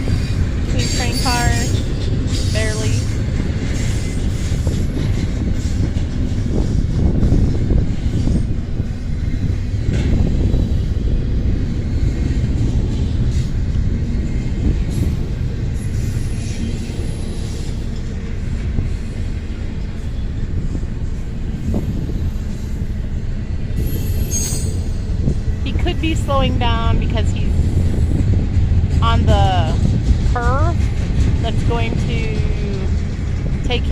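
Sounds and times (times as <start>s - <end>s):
train cars rumbling past: 0.0s - 33.9s.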